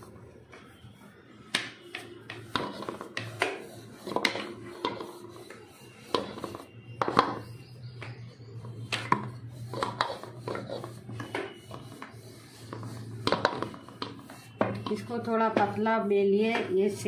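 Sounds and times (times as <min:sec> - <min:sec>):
rolling pin on metal board: 0:01.5 - 0:16.8.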